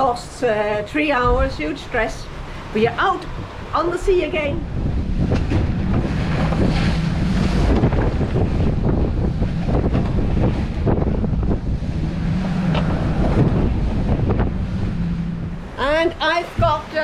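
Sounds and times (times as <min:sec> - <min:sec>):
water rushing along hull: 0:00.0 - 0:17.0
wind buffeting microphone: 0:00.0 - 0:17.0
low hum: 0:01.2 - 0:17.0.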